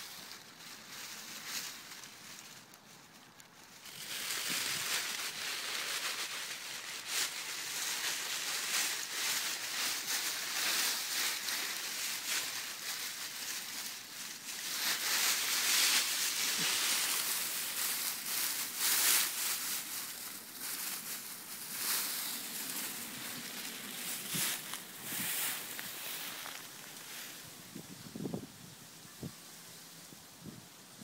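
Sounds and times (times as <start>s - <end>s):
dry leaves rustling and crunching: 0.0s - 28.3s.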